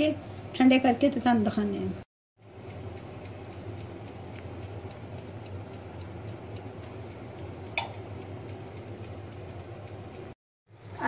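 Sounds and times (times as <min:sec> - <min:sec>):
electric oven humming: 0:00.0 - 0:11.0.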